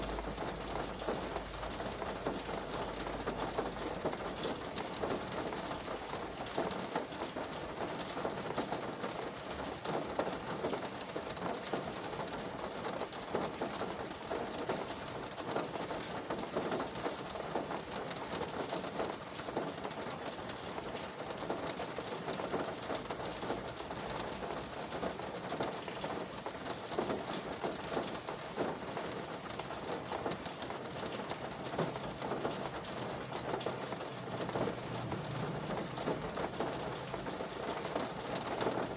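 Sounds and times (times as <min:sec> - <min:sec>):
rain drumming on car roof: 0:00.0 - 0:38.9.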